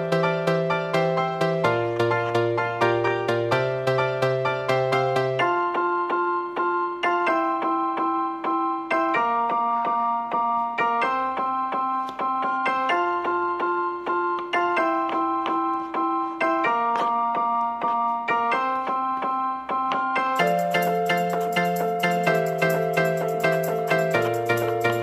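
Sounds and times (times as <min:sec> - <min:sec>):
piano keyboard music: 0:00.0 - 0:25.0.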